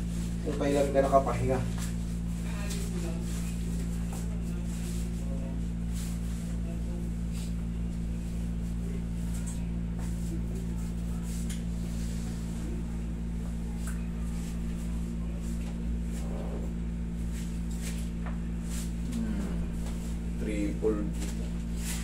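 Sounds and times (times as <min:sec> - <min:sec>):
air conditioner humming: 0:00.0 - 0:22.0.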